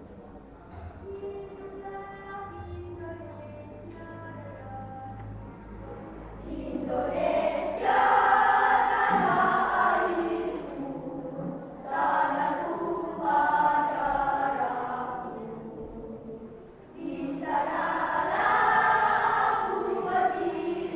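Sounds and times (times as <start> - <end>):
children's choir singing: 1.0 - 20.9.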